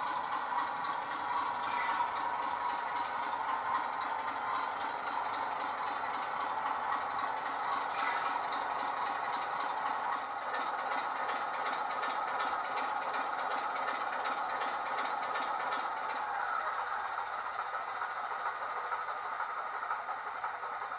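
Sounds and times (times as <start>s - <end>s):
diesel locomotive engine running: 0.0s - 20.9s.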